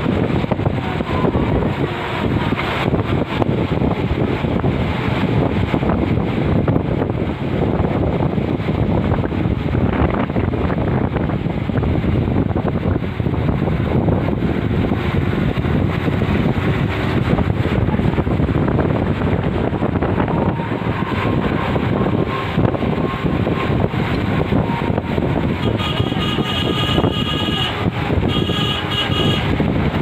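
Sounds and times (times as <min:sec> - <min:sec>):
bus engine and road noise: 0:00.0 - 0:30.0
wind buffeting microphone: 0:00.0 - 0:30.0.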